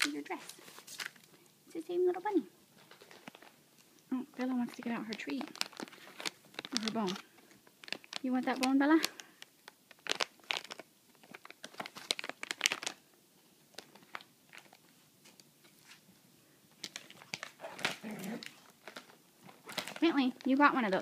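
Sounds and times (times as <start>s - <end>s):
plastic wrapper crinkling: 0.0s - 1.5s, 2.2s - 16.1s, 16.7s - 21.0s.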